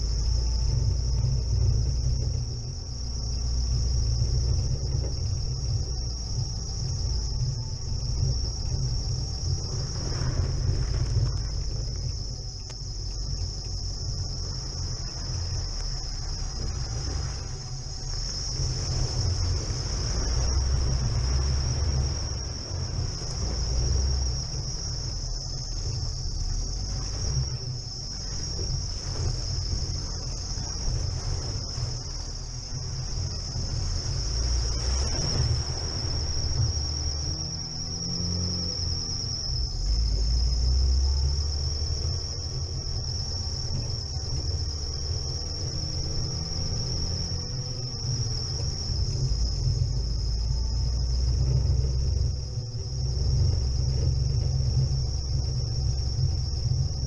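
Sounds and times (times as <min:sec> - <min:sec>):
car engine rumbling: 0:00.0 - 0:57.0
high-pitched whine: 0:00.0 - 0:57.0.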